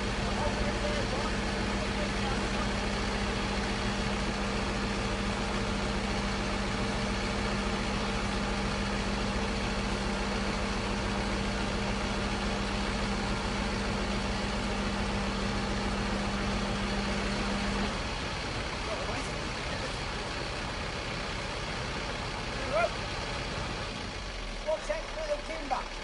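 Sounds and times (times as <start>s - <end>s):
heavy vehicle engine humming: 0.0s - 26.0s.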